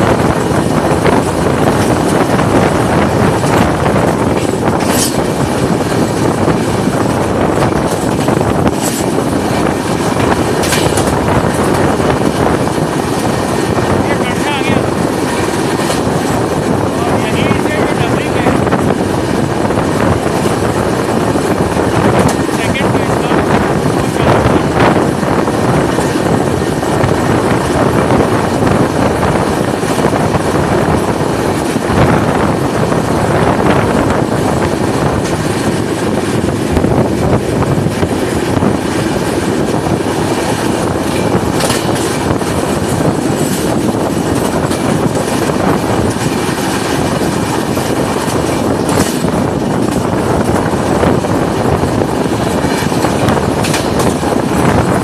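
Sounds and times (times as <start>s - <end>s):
rushing air: 0.0s - 55.0s
train wheels clattering: 0.0s - 55.0s
train wheels rumbling on rails: 0.0s - 55.0s.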